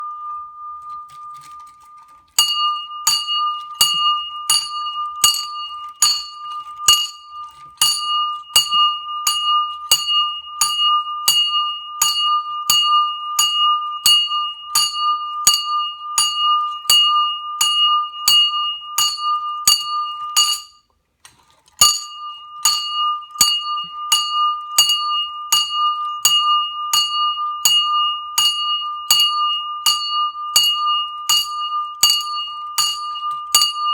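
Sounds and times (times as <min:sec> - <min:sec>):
high bell ringing: 0:00.0 - 0:20.9, 0:21.8 - 0:33.9.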